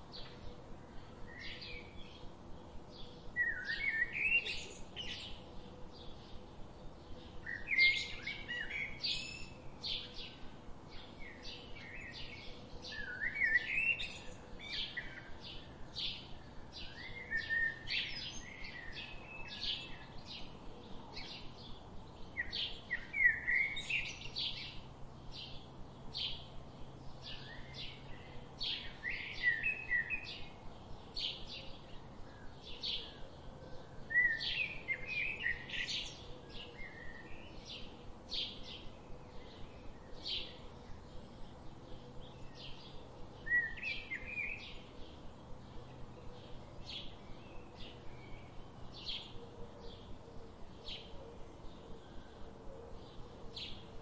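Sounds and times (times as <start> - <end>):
warbled bird song: 0.0 - 54.0.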